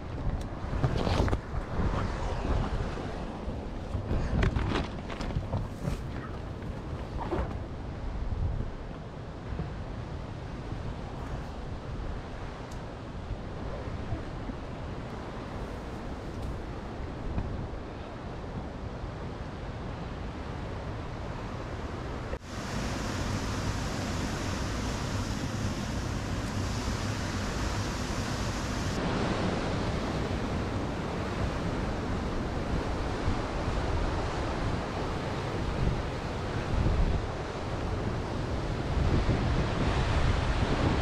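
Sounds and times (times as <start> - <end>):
wind on microphone: 0.0 - 18.9, 22.1 - 41.0.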